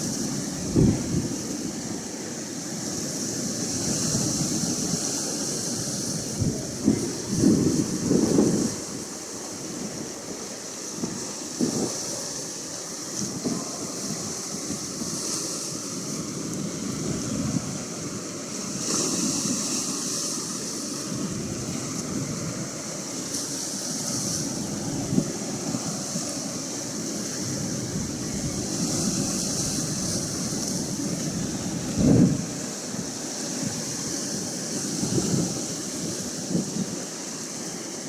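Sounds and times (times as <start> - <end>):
ocean surf hissing: 0.0 - 38.0
wind on microphone: 0.0 - 38.0.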